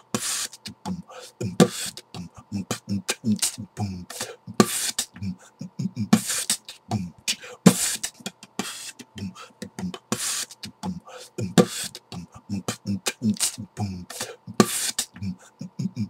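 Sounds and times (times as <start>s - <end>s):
beatboxing hissing snare: 0.0s - 16.0s
beatboxing kick thumps: 0.1s - 16.0s.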